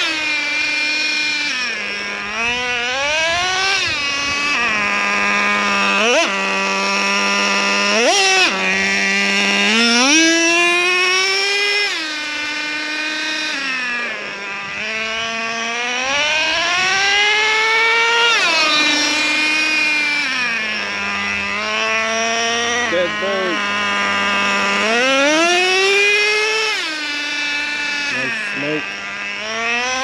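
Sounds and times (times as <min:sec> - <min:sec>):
small nitro engine idling and revving: 0:00.0 - 0:30.0.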